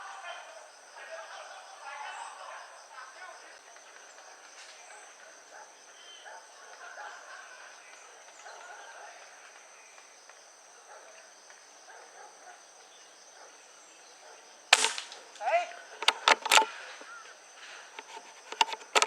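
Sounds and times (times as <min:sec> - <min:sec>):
faint outdoor sounds: 0:00.0 - 0:19.0.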